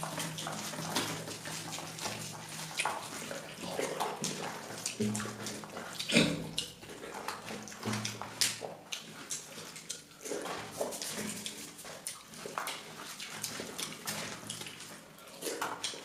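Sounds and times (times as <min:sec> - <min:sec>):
person eating wetly: 0:00.0 - 0:16.0
mouth smacks and squelches: 0:00.1 - 0:16.0.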